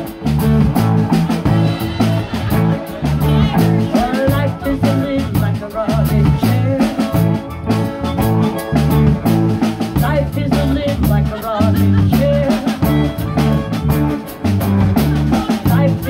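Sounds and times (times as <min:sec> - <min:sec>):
harmonica playing: 0:00.0 - 0:05.8, 0:06.5 - 0:16.0
blues band playing: 0:00.0 - 0:16.0
drum kit: 0:00.0 - 0:16.0
electric bass: 0:00.0 - 0:16.0
electric guitars: 0:00.0 - 0:16.0.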